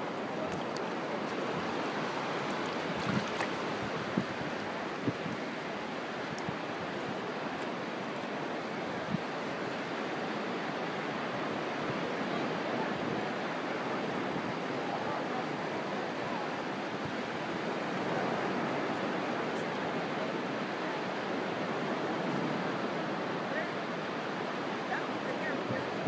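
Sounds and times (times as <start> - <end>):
surf washing on a beach: 0.0 - 26.0.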